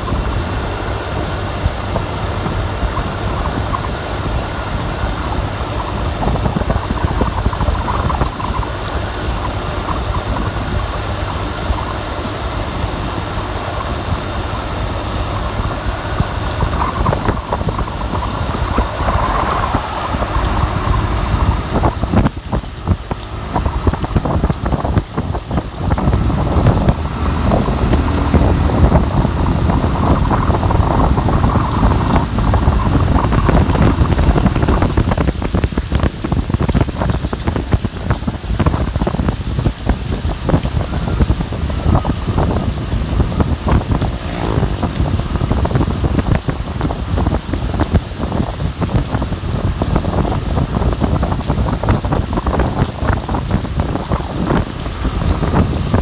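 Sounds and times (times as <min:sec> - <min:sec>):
gusting wind: 0:00.0 - 0:56.0
rain: 0:00.0 - 0:56.0
wind buffeting microphone: 0:00.0 - 0:56.0.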